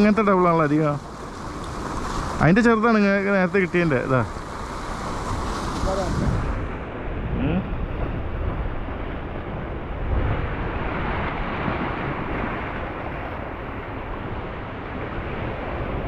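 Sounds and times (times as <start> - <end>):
sea surf washing against rocks: 0.0 - 16.0
wind buffeting microphone: 0.0 - 16.0.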